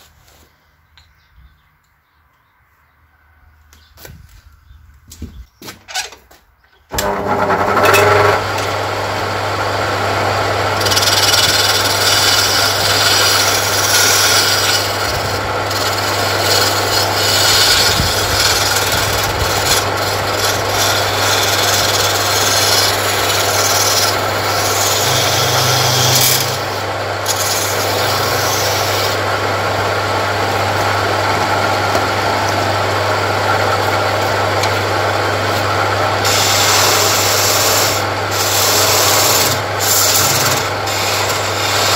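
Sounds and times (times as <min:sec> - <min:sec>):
chisel scraping spinning wood: 0:06.9 - 0:41.9
electric motor humming: 0:06.9 - 0:41.9.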